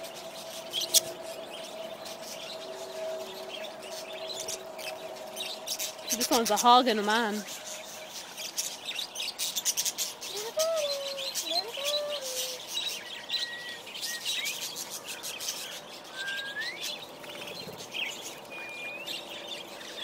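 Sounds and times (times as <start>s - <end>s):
birds chirping and chattering: 0.0s - 20.0s.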